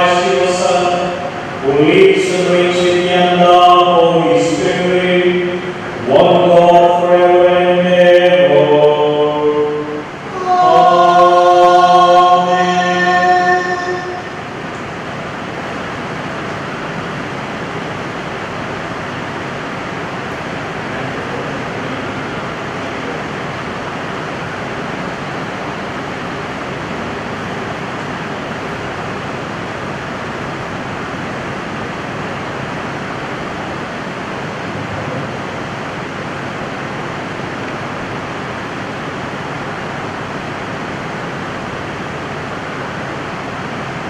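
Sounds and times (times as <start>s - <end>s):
steady rushing noise: 0.0s - 44.0s.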